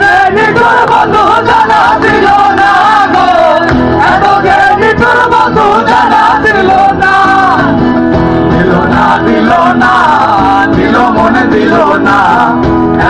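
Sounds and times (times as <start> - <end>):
cajon beat: 0.0 - 13.0
group of men singing: 0.0 - 13.0.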